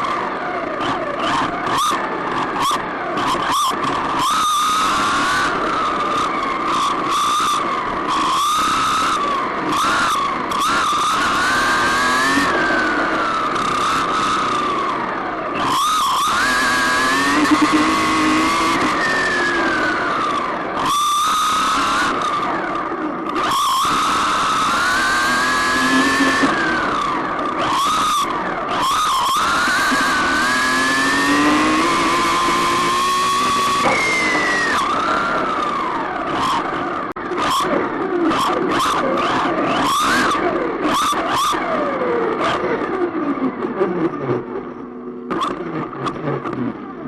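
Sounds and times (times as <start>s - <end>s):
rc car motor whining: 0.0s - 47.0s.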